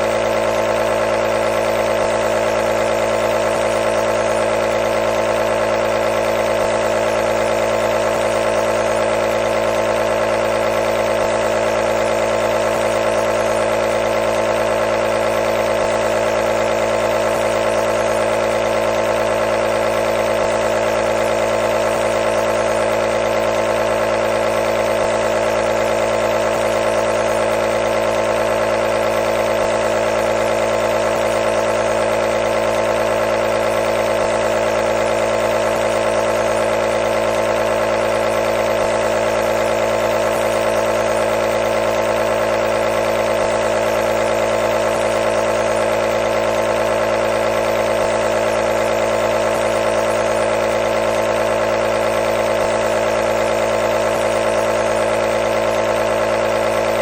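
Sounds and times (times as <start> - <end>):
nebulizer compressor buzzing hum: 0.0 - 57.0.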